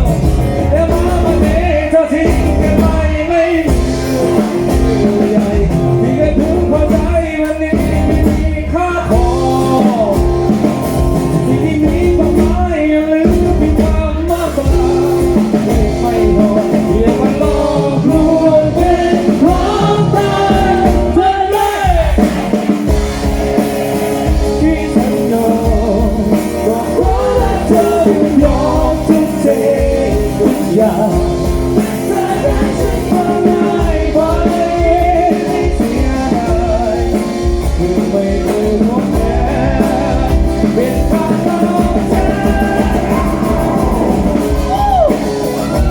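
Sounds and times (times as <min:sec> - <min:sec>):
guitar: 0:00.0 - 0:45.9
lead singer singing: 0:00.0 - 0:45.9
pop-rock band playing: 0:00.0 - 0:45.9
steady drum beat: 0:00.0 - 0:45.9.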